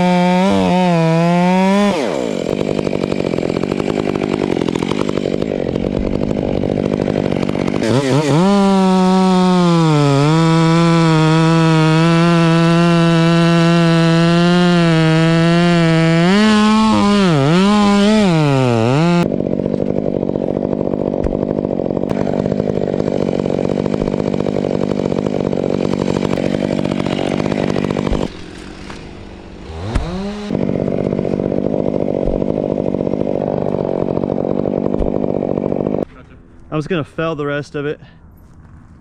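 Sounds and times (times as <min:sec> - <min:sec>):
chainsaw revving and cutting wood: 0:00.0 - 0:36.2.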